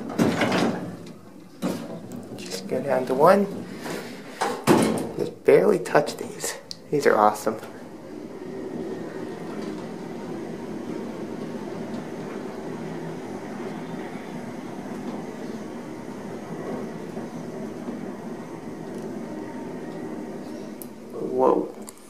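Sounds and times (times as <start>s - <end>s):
elevator car rumbling: 0.0s - 21.9s.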